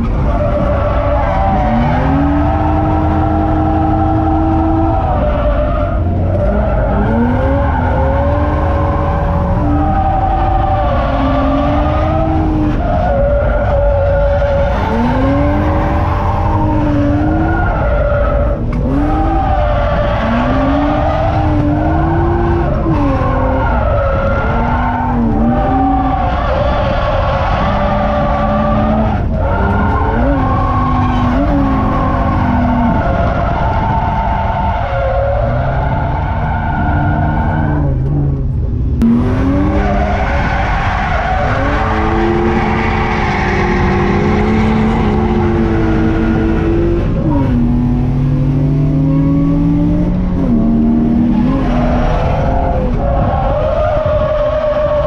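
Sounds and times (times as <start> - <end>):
car engine revving hard: 0.0 - 55.0
tyres skidding and squealing: 0.0 - 55.0.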